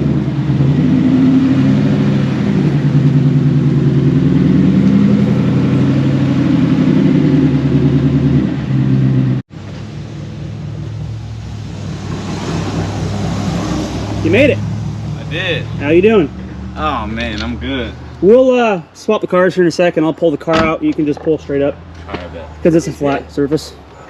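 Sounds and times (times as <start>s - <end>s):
car engine low rumble: 0.0s - 24.0s.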